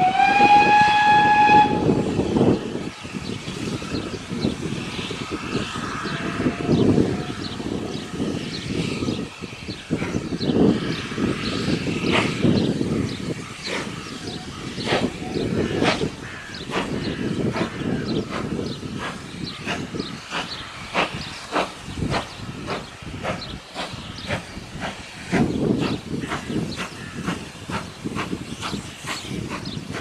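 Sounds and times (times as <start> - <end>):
steam locomotive exhaust chuffing: 0.0 - 30.0.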